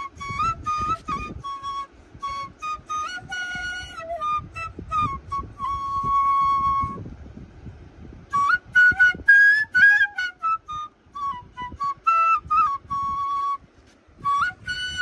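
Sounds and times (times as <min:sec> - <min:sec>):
bamboo flute melody: 0:00.0 - 0:07.2, 0:08.2 - 0:15.0.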